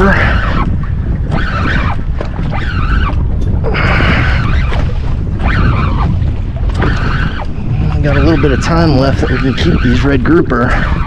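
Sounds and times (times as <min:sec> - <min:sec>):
fishing reel whirring: 0:00.0 - 0:11.0
wind buffeting microphone: 0:00.0 - 0:11.0.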